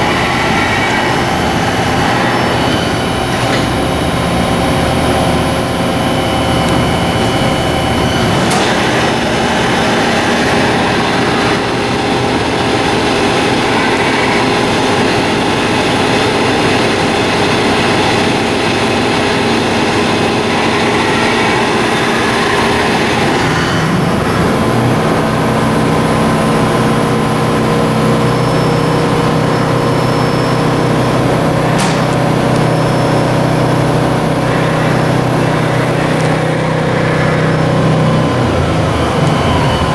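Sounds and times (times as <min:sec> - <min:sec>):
lathe machine humming and whirring: 0:00.0 - 0:39.9.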